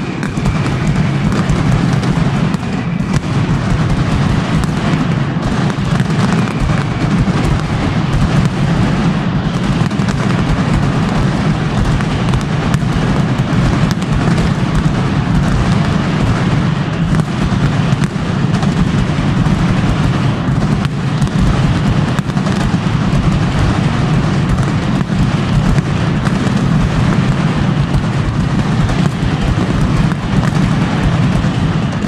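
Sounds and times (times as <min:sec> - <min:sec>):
firecrackers banging: 0:00.0 - 0:32.0.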